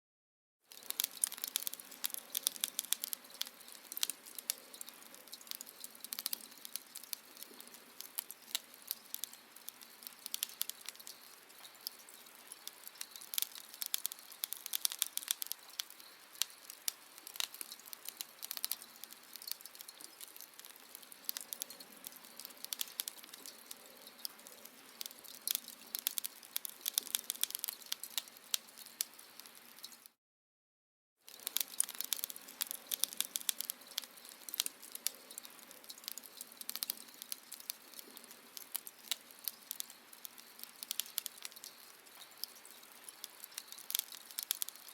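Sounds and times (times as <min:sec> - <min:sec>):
fire crackling: 0:00.7 - 0:30.2, 0:31.3 - 0:44.9.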